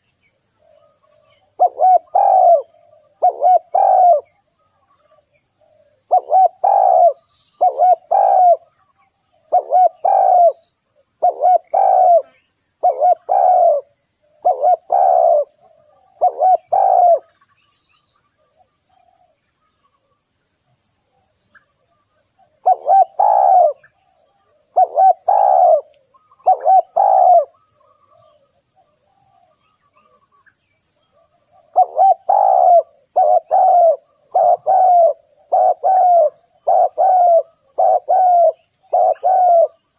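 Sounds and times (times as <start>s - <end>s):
dove cooing: 0.6s - 4.4s, 5.0s - 10.6s, 11.2s - 17.4s, 22.4s - 30.2s, 31.1s - 39.9s.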